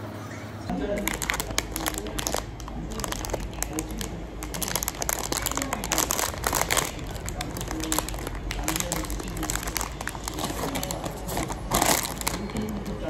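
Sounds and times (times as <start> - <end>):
plastic wrapper crinkling: 0.8 - 13.0.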